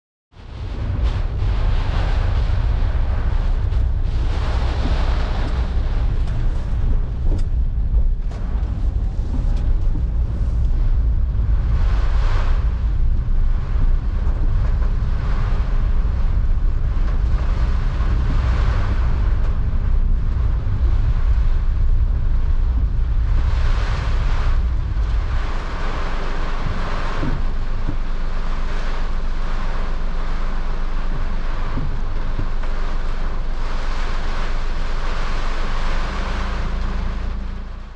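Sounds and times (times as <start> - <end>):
roar of rushing water: 0.4 - 37.9.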